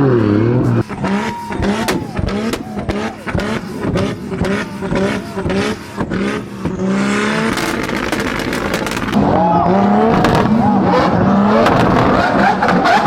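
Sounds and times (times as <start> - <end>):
car engine revving: 0.0 - 13.0
exhaust pops and bangs: 0.2 - 9.3, 10.0 - 13.0.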